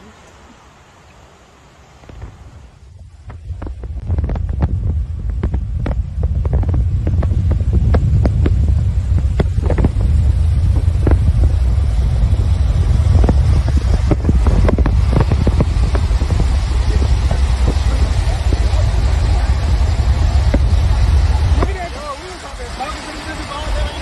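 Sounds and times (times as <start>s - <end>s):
road and wind noise rumble: 0.0s - 24.0s
wind buffeting microphone: 2.0s - 24.0s.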